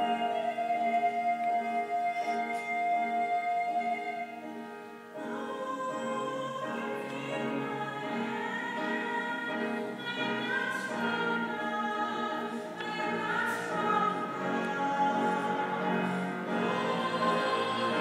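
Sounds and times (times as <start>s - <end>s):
mixed voices singing in harmony: 0.0s - 18.0s.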